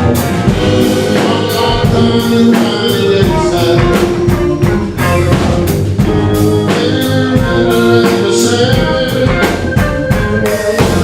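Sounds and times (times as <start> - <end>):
live blues band playing: 0.0 - 11.0
steady drum beat: 0.0 - 11.0.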